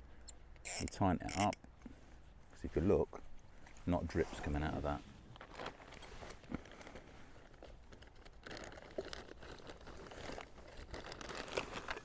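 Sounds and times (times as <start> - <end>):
rustling and crinkling of gear: 0.8 - 12.0.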